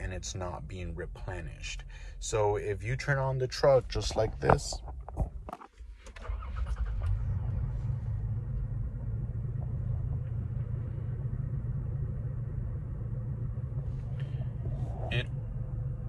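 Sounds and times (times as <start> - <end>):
car engine starting and idling: 0.0 - 16.0.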